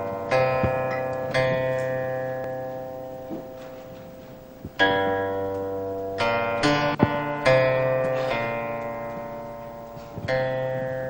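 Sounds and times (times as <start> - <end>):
plucked string instrument notes: 0.0 - 11.0.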